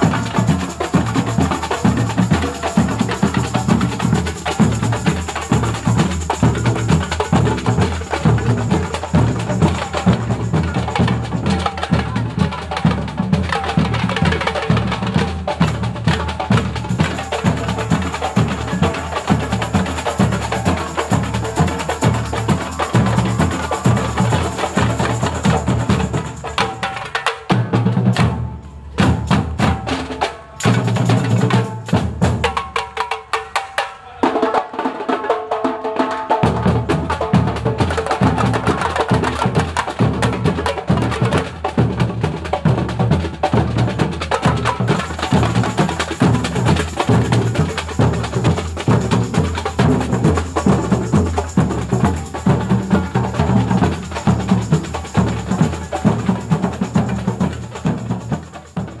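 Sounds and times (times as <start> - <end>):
samba percussion band playing: 0.0 - 59.0.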